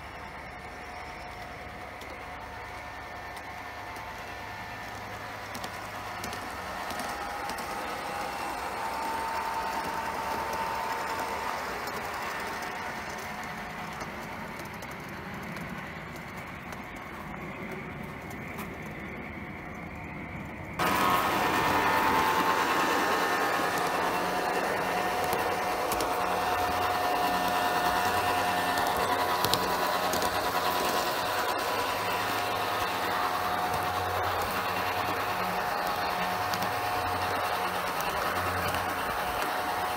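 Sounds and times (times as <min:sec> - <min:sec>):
model train wheels rumbling on rails: 0:00.0 - 0:39.9
steady whine: 0:00.0 - 0:39.9.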